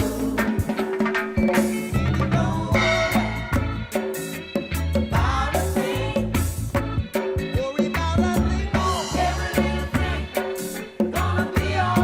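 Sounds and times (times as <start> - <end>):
live reggae band playing: 0.0 - 12.0.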